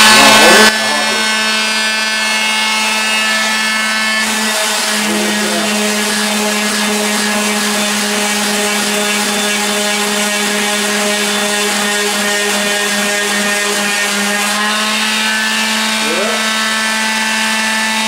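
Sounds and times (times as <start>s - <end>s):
palm sander motor hum: 0.0s - 18.0s.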